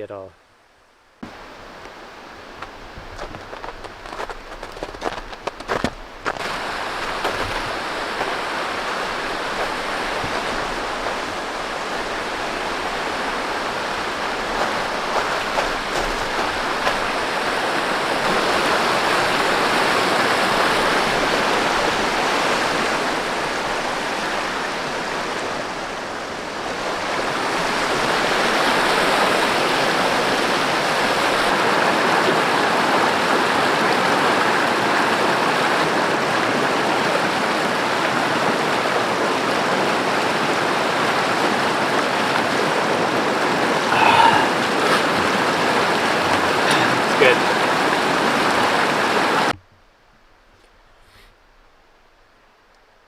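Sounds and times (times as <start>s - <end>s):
mountain river rushing: 0.0s - 49.6s.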